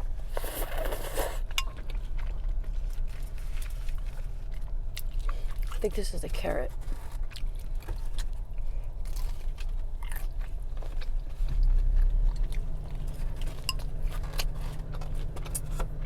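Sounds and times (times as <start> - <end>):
steady low hum: 0.0 - 16.0
person chewing carrot: 0.2 - 5.8, 6.8 - 16.0.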